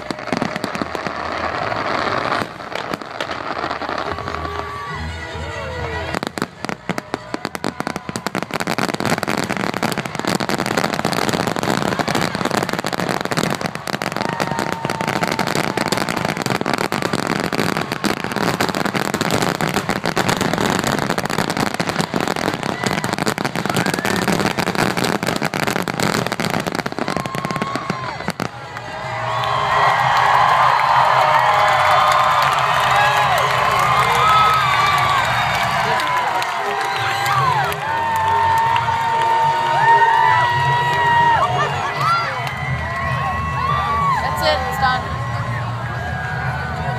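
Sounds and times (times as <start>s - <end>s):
crowd cheering: 0.0s - 46.9s
firework bangs and crackle: 0.0s - 46.9s.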